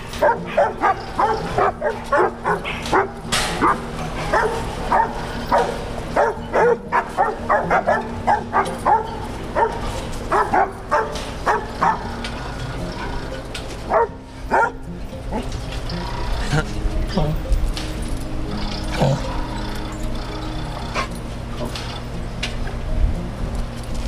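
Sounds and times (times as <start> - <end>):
dogs barking and yipping: 0.0 - 16.8, 17.7 - 22.8
steady low hum: 0.0 - 24.0.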